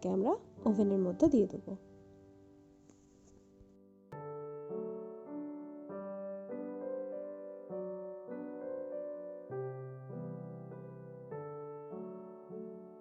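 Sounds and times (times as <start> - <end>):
gentle piano chords: 0.0 - 13.0.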